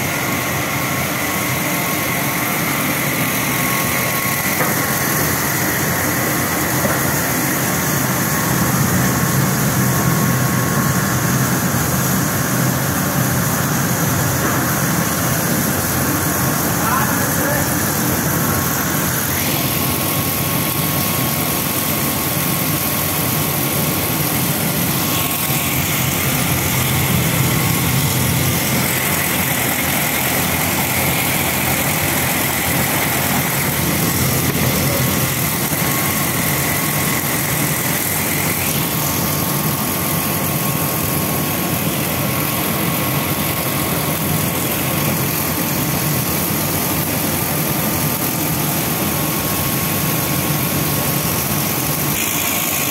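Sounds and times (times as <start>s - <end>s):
machinery running: 0.0s - 52.9s.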